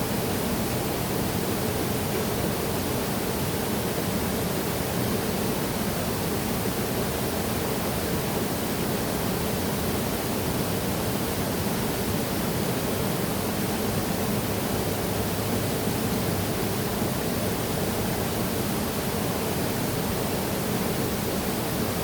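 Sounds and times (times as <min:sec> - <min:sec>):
waterfall: 0:00.0 - 0:22.0.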